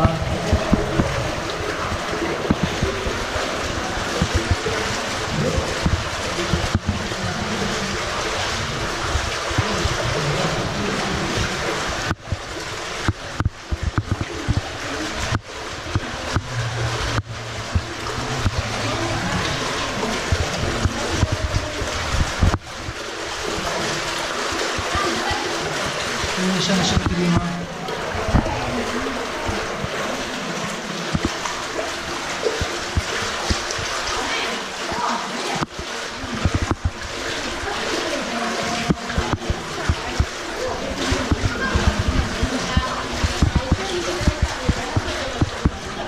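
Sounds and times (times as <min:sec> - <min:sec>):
water rushing and splashing: 0:00.0 - 0:46.0.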